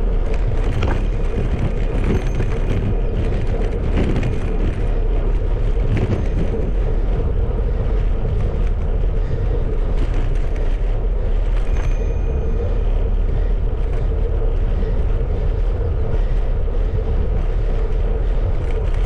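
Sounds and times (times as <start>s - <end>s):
bicycle rattles: 0.0s - 19.0s
bicycle tyres rolling on gravel: 0.0s - 19.0s
wind buffeting microphone: 0.0s - 19.0s.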